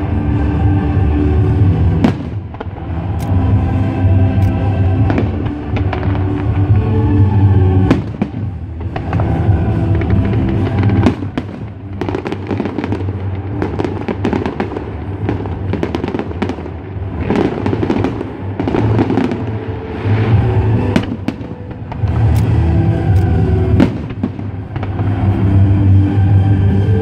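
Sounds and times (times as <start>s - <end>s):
fireworks bursting and crackling: 0.0s - 27.0s
music playing: 0.0s - 27.0s.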